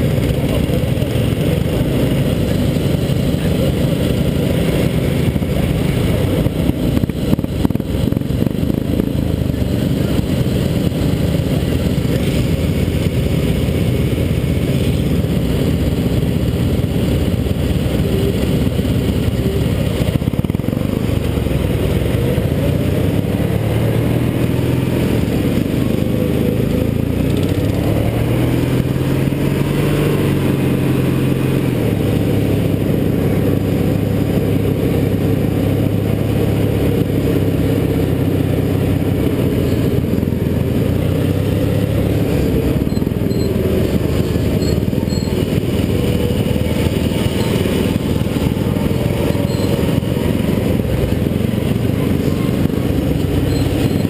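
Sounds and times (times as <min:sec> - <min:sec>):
lawn tractor engine revving: 0:00.0 - 0:54.0.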